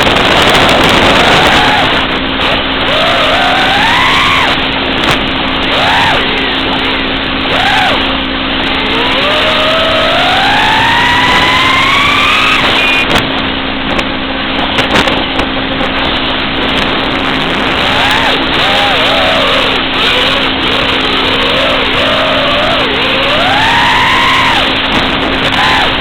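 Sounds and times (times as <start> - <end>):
drone motors whining: 0.0 - 14.0, 14.7 - 26.0
heavy rushing noise: 0.0 - 26.0.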